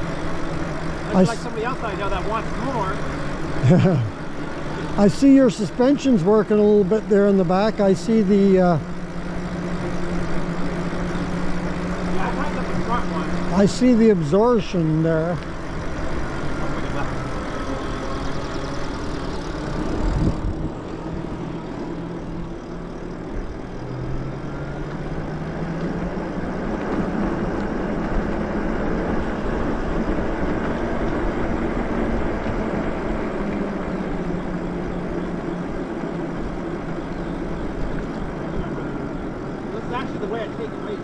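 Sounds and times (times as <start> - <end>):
electric motor hum: 0.0 - 41.0
wind: 0.0 - 41.0.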